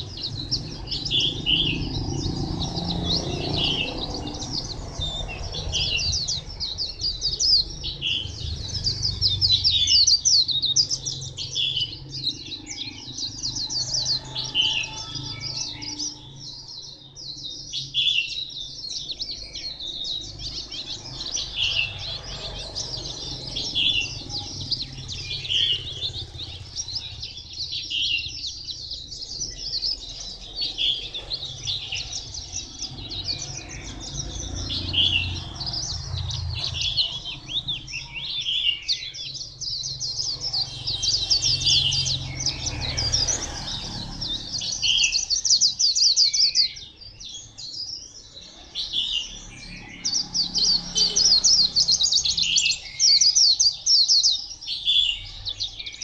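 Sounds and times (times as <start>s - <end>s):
bird twittering song: 0.0s - 56.0s.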